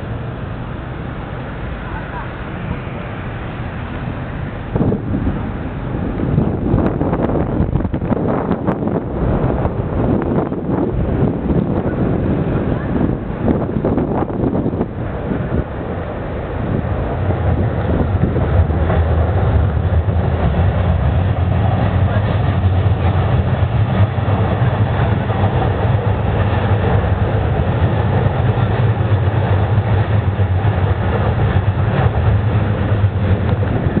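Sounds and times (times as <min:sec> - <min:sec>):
train rumbling over viaduct: 0:00.0 - 0:34.0.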